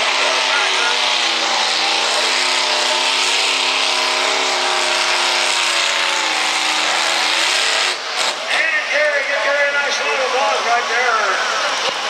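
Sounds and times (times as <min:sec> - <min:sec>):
tractor engine at full throttle: 0:00.0 - 0:12.0.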